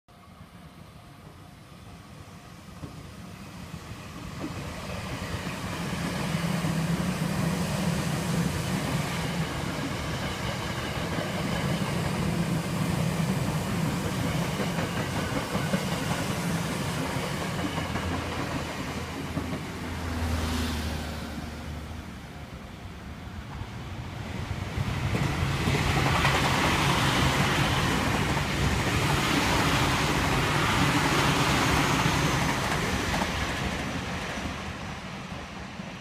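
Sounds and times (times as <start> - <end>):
electric train passing: 0.1 - 36.0.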